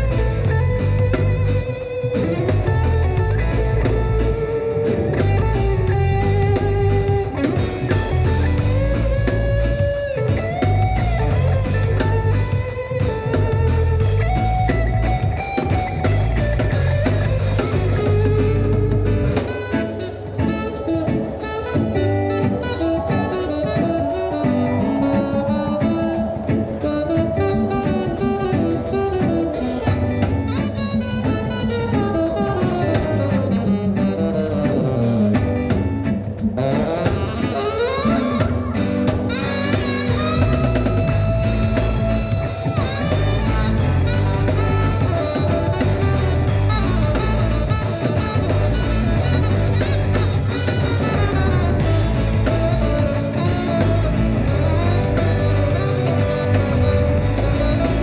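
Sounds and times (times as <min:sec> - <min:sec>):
bass: 0:00.0 - 0:58.0
drum kit: 0:00.0 - 0:58.0
electric guitars: 0:00.0 - 0:58.0
saxophone: 0:00.0 - 0:58.0.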